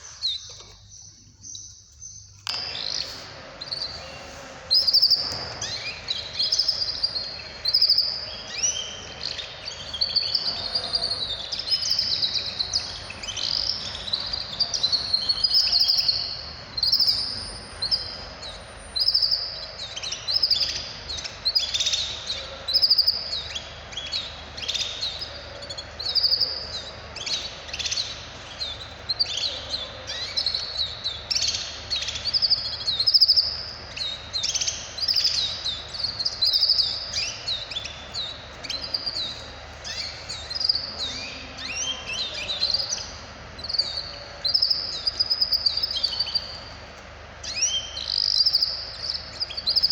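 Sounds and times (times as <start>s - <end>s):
songbirds chirping and singing: 0.0s - 49.9s.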